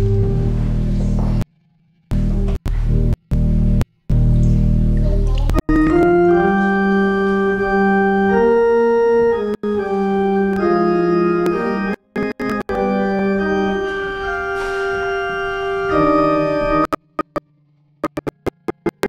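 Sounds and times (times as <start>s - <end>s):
organ playing slow chords: 0.0s - 1.4s, 2.1s - 17.3s.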